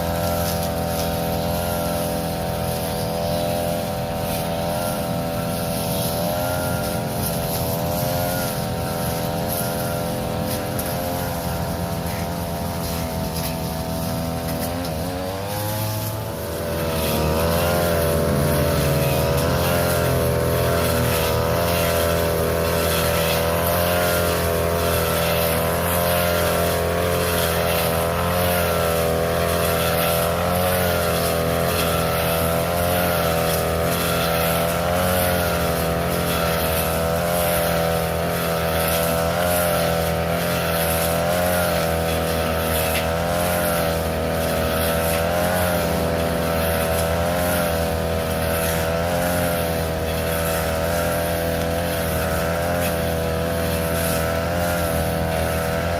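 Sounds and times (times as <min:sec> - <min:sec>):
grass cutter engine revving: 0:00.0 - 0:55.9.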